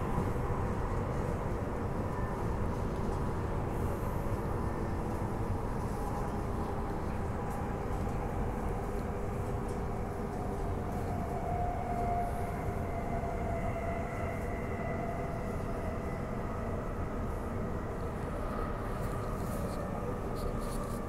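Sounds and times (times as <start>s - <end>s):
electric train rumbling: 0.0s - 21.0s
faint train whine: 0.0s - 21.0s.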